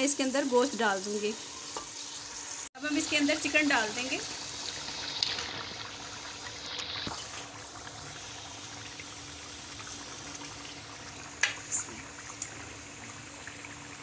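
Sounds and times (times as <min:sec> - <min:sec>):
food sizzling in a metal pot: 0:00.0 - 0:14.0.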